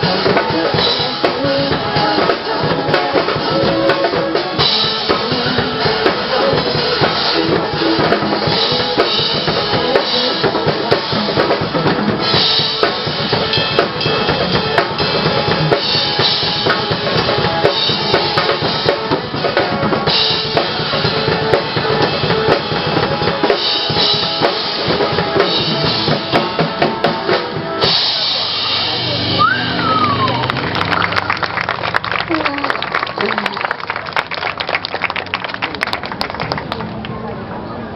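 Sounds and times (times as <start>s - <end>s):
pop backing track: 0.0s - 34.9s
drum kit playing: 0.0s - 36.6s.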